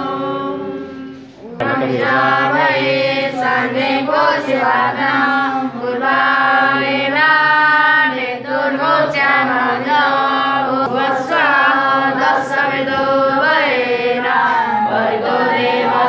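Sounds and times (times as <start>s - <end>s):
group chanting in unison: 0.0s - 16.0s.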